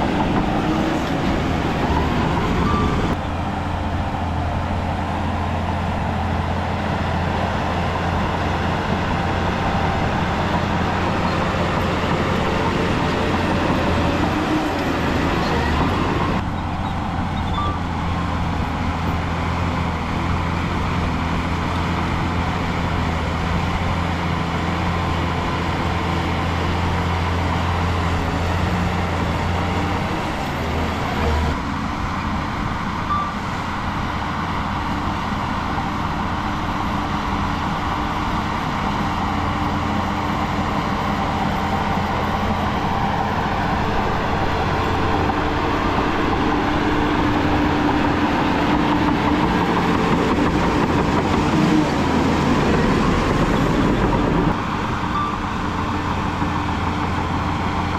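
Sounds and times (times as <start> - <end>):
diesel machinery engine hum: 0.0 - 57.9.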